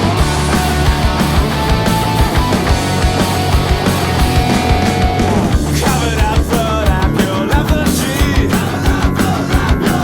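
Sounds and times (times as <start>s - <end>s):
rock music with distorted guitars: 0.0s - 10.0s.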